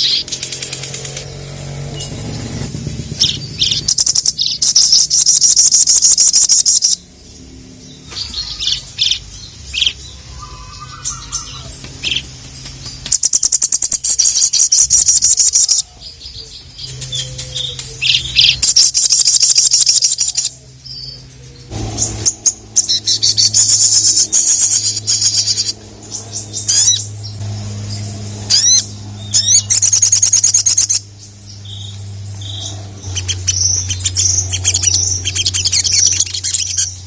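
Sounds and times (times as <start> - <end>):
bird singing chattering trills: 0.0 - 37.0.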